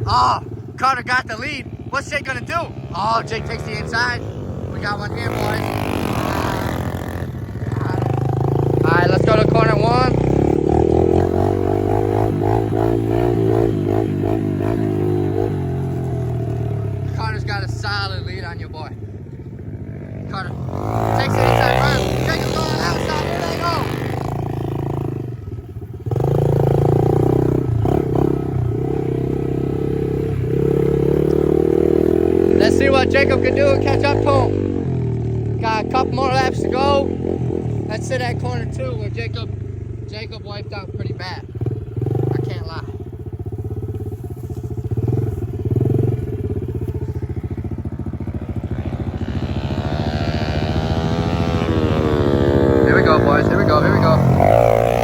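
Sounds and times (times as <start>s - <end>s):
pit bike engine at high revs: 0.0s - 55.0s.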